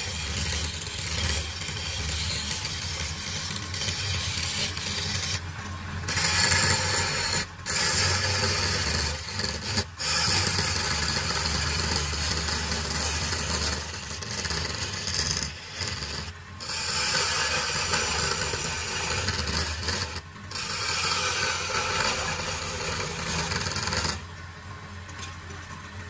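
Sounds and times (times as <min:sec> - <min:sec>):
chisel scraping spinning wood: 0:00.0 - 0:24.4
wood lathe humming: 0:00.0 - 0:24.4.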